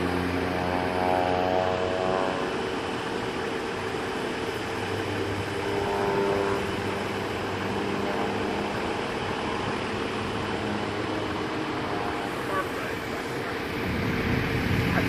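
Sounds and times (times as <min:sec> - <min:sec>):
engine drone: 0:00.0 - 0:15.0
low hum: 0:00.0 - 0:15.0.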